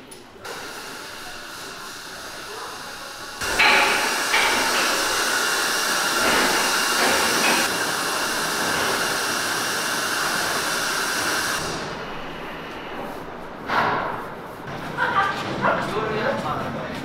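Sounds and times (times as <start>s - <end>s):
machinery and ventilation hiss: 0.0s - 17.0s.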